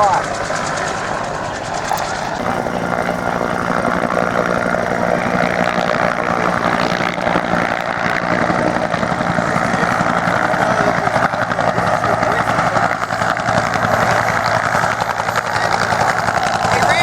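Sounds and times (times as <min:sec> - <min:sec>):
helicopter turbine and rotor: 0:00.0 - 0:17.0.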